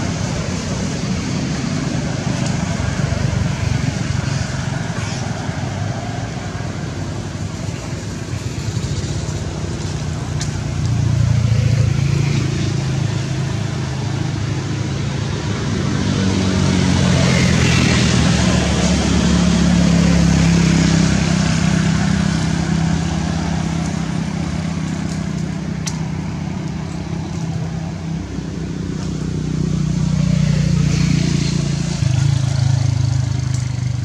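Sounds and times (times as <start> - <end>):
low hum of vehicle engines: 0.0 - 34.0.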